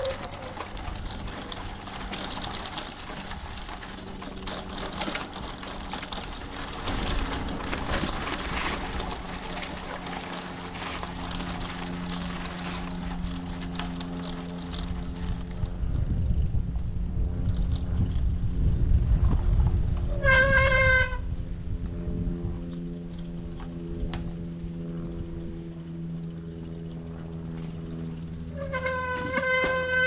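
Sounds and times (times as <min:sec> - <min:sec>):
small clicks and rattles: 0:00.0 - 0:16.4, 0:17.3 - 0:18.4, 0:22.7 - 0:30.0
bicycle tyres rumbling on gravel: 0:00.0 - 0:30.0
low steady hum: 0:00.0 - 0:30.0.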